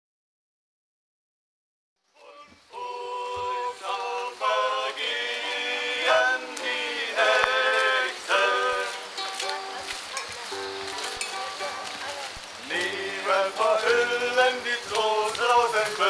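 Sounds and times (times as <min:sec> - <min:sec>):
group of voices singing: 0:02.2 - 0:16.0
strummed acoustic guitars: 0:03.1 - 0:16.0.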